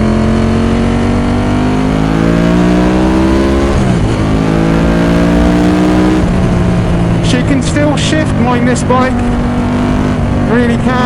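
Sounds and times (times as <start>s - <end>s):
motorcycle engine accelerating hard: 0.0s - 11.0s.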